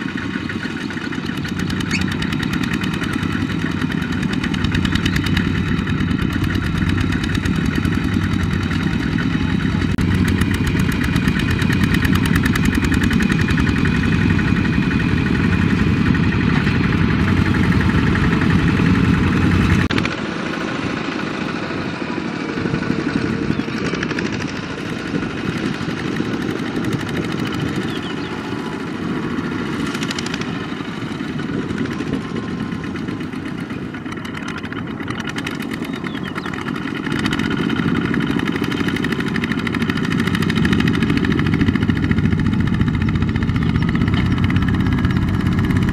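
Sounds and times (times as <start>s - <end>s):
diesel tractor engines running: 0.0s - 45.9s.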